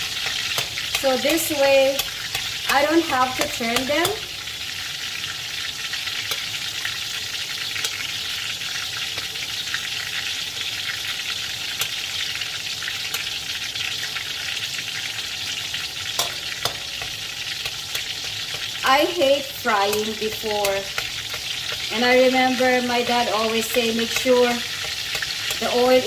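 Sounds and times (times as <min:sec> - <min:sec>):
fish frying in hot oil: 0:00.0 - 0:26.0.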